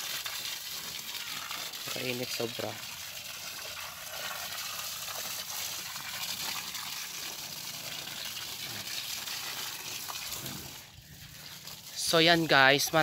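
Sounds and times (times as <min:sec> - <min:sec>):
hose water spraying on leaves: 0:00.0 - 0:13.0.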